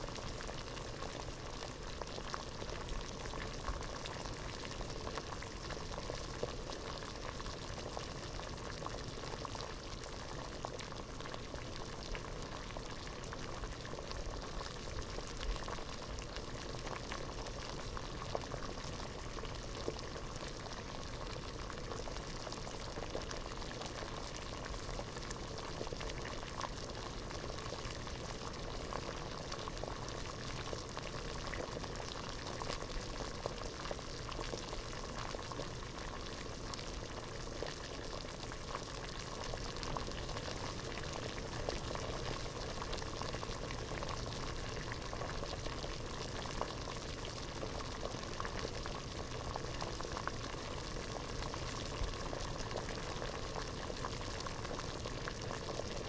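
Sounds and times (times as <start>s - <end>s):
pot of water boiling: 0.0s - 56.0s.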